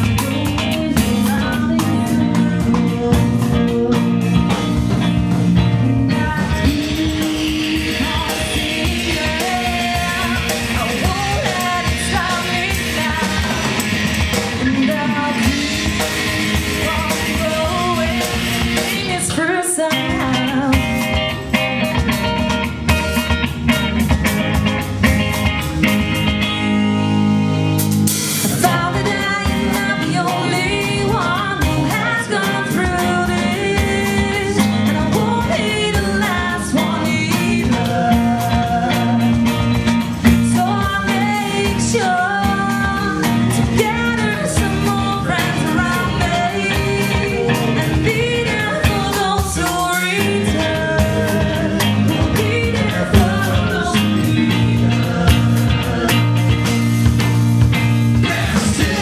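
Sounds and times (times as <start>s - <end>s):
woman singing: 0.0s - 21.4s, 28.5s - 56.6s, 58.2s - 59.0s
bass guitar: 0.0s - 59.0s
drum kit: 0.0s - 59.0s
electric guitar: 0.0s - 59.0s.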